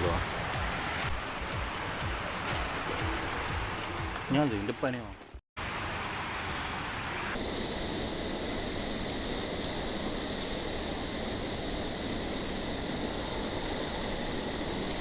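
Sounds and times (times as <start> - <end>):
steady outdoor rushing noise: 0.0 - 15.0.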